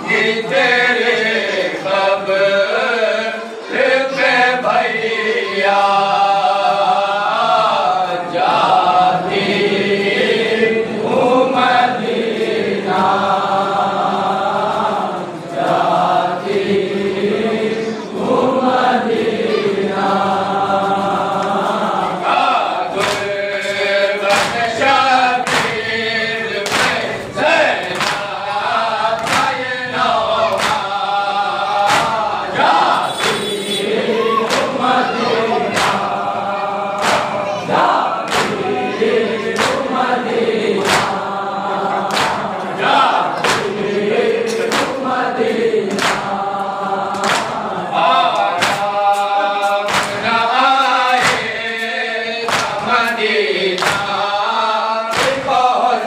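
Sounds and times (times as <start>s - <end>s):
men chanting in chorus: 0.0s - 56.0s.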